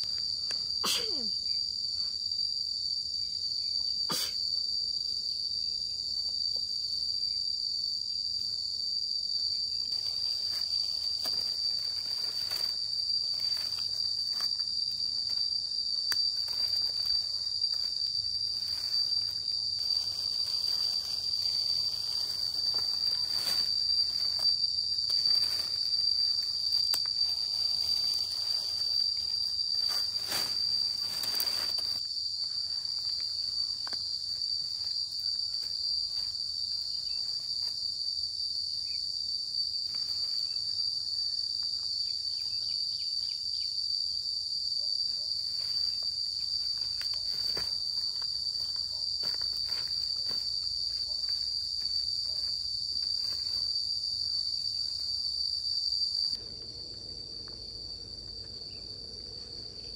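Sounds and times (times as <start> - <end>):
crickets chirring: 0.0 - 59.9.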